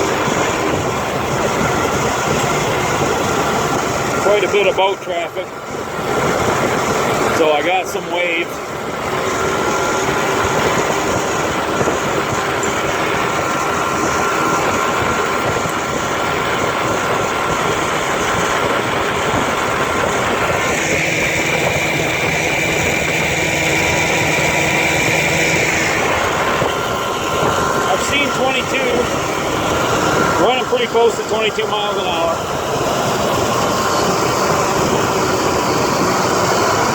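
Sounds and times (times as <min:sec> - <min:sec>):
outboard motor running: 0:00.0 - 0:36.9
wind on microphone: 0:00.0 - 0:36.9.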